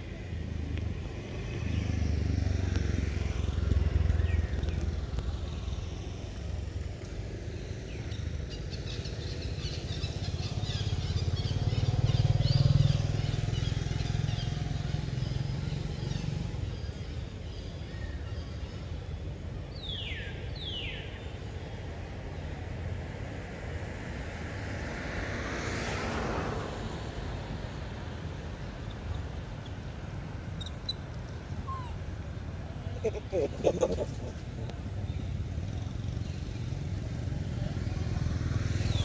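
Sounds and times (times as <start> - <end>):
distant traffic rumble: 0.0 - 39.0.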